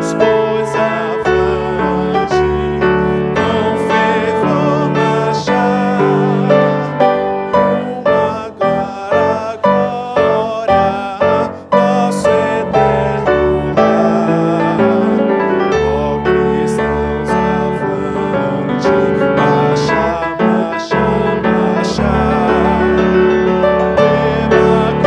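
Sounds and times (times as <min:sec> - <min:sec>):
person singing: 0:00.0 - 0:25.0
slow piano music: 0:00.0 - 0:25.0.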